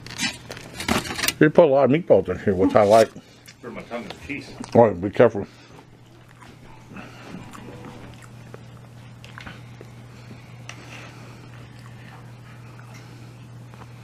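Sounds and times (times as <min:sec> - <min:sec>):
man chewing food: 0:00.0 - 0:00.8, 0:02.6 - 0:14.0
steady low hum: 0:00.0 - 0:14.0.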